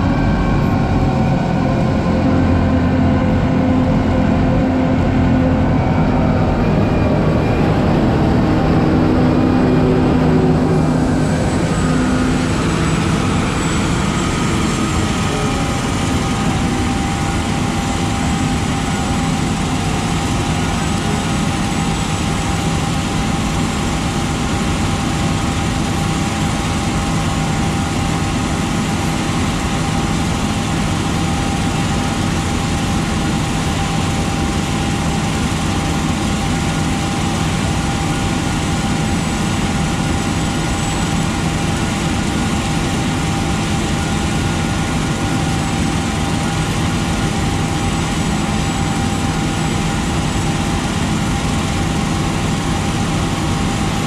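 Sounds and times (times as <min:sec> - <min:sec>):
steady whine: 0:00.0 - 0:54.0
tractor diesel engine drone: 0:00.0 - 0:54.0.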